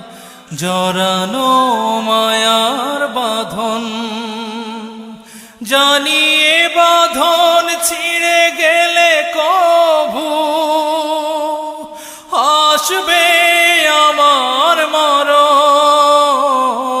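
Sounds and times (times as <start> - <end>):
person singing with vibrato: 0.0 - 17.0.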